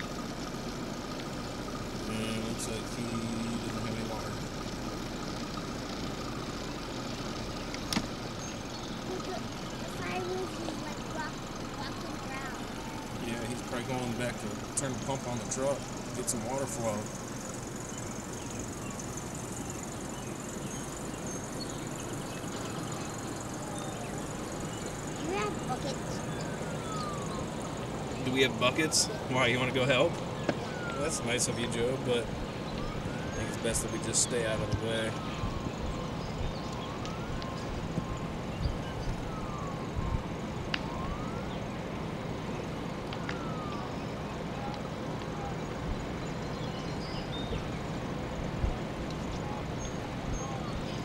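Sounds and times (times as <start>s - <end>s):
faint bird chirps: 0.0s - 41.6s, 49.0s - 51.0s
emergency vehicle siren wailing: 0.0s - 51.0s
insect trill: 0.0s - 51.0s
low rumble and hiss: 0.0s - 51.0s.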